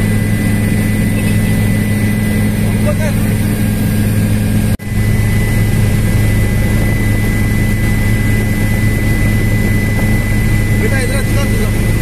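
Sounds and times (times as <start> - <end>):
helicopter engine and rotors drone: 0.0 - 12.0.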